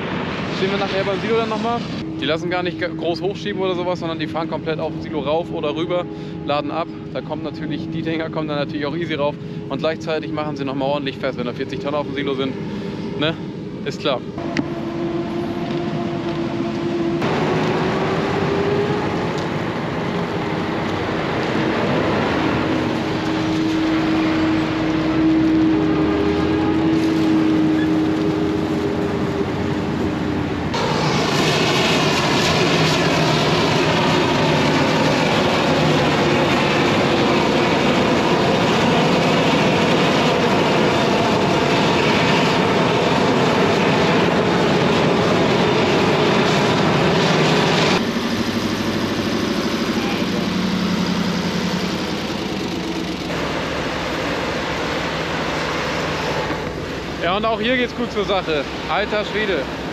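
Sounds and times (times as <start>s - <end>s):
truck engine passing: 0.0s - 59.9s.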